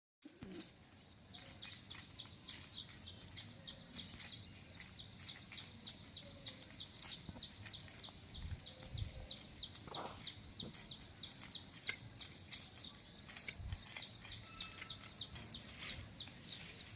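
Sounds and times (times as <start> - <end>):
birds chirping rapidly: 0.3 - 16.9.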